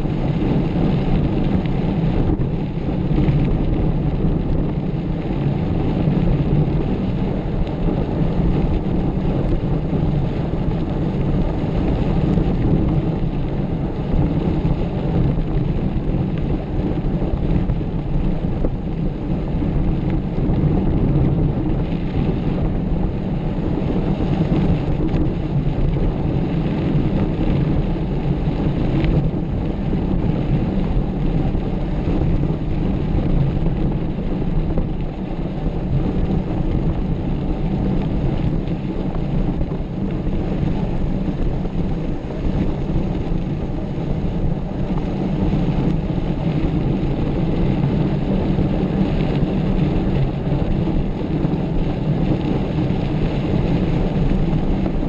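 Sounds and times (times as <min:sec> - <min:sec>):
bike rumbling over dirt trail: 0:00.0 - 0:55.0
wind buffeting microphone: 0:00.0 - 0:55.0.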